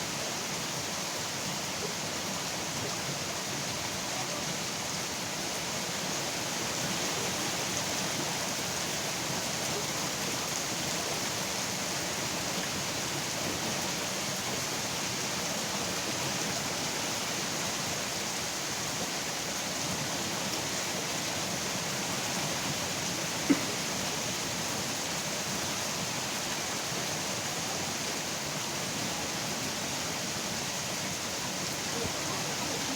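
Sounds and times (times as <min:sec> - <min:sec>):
steady rain hiss: 0:00.0 - 0:32.9.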